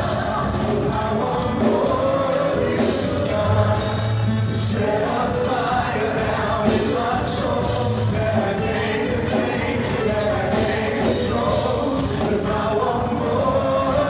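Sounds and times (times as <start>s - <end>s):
gospel band playing: 0.0s - 14.0s
group of voices singing: 0.0s - 14.0s.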